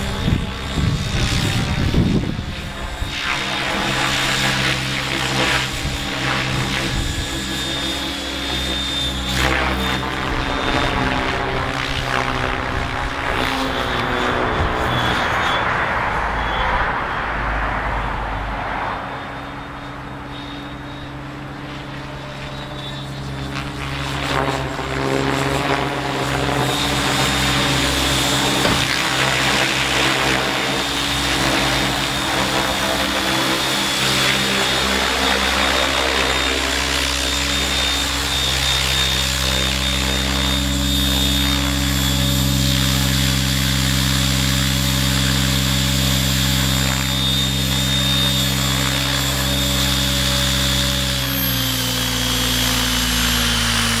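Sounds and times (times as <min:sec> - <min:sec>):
model helicopter rotor whine: 0:00.0 - 0:54.0.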